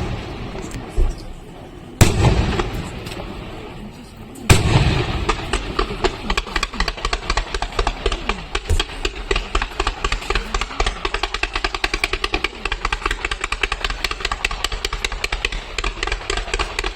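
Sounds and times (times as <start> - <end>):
firework shell bangs: 0.0 - 3.7, 4.5 - 16.9
firework cracks and pops: 0.0 - 16.9.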